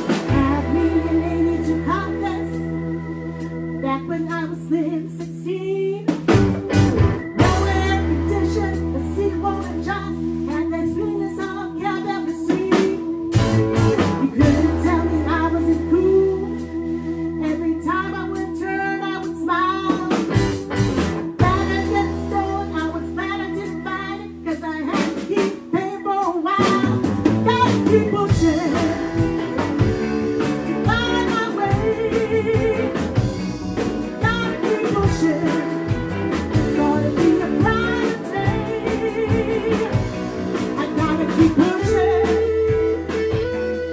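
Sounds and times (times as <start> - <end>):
woman singing: 0.0 - 2.8, 3.8 - 6.3, 7.4 - 13.4, 14.0 - 16.8, 17.4 - 20.3, 21.4 - 43.9
electric blues band playing: 0.0 - 43.9.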